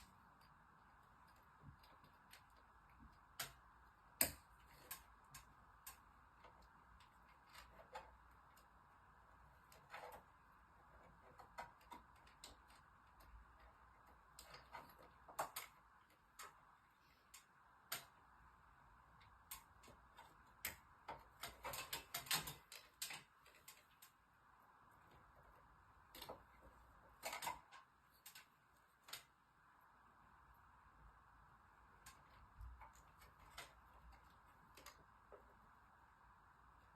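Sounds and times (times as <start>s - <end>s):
light clicks and taps: 0.0s - 29.9s, 31.7s - 36.9s
steady low hiss: 0.0s - 36.9s.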